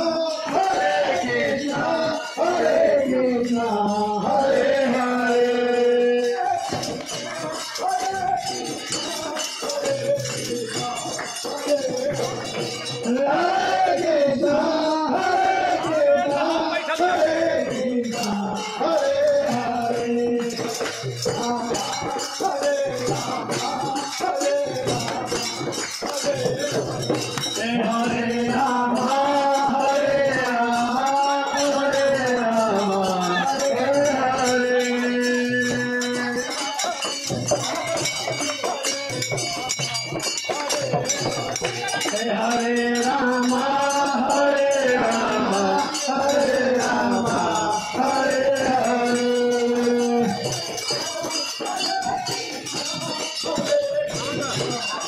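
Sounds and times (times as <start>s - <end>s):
people clapping: 0.0s - 5.6s, 6.3s - 55.0s
devotional chant sung to music: 0.0s - 55.0s
hand clappers jingling: 0.0s - 55.0s.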